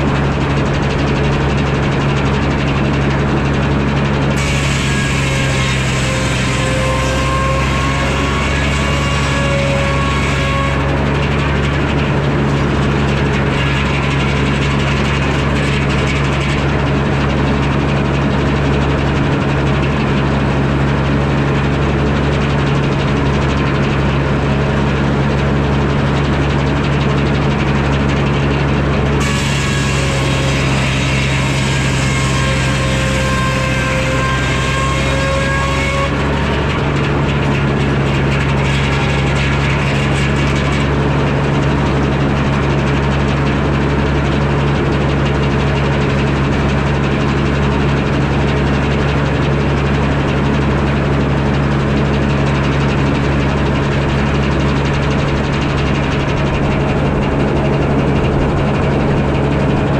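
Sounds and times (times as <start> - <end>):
circular saw cutting log: 0.0 - 59.9
sawmill engine running: 0.0 - 59.9.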